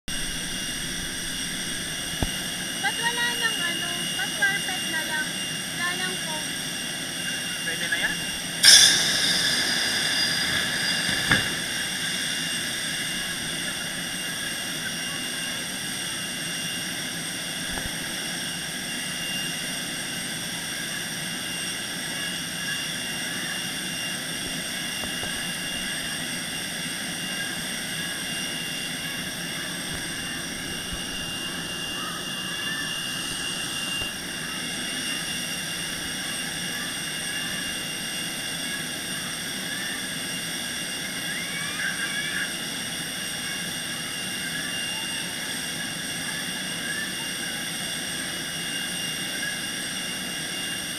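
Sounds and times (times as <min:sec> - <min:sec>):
high turbine whine: 0:00.0 - 0:50.9
jet aircraft droning rumble: 0:00.0 - 0:50.9.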